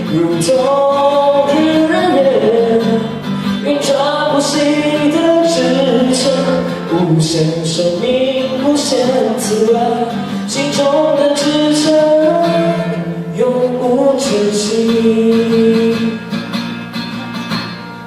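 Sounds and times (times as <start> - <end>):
acoustic guitar accompaniment: 0.0 - 18.0.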